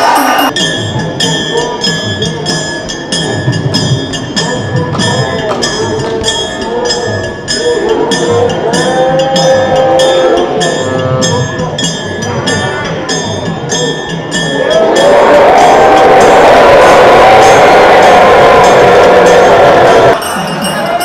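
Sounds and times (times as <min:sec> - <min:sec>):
music with percussive beat: 0:00.0 - 0:21.0.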